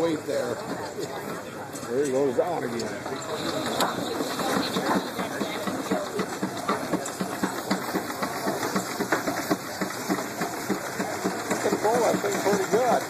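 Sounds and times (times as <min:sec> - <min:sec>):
steam engine exhaust chuffing: 0:02.2 - 0:13.0.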